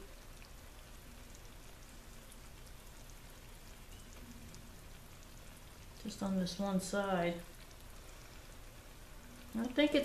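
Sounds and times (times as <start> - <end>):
casserole sizzling in a pot: 0.0 - 10.0.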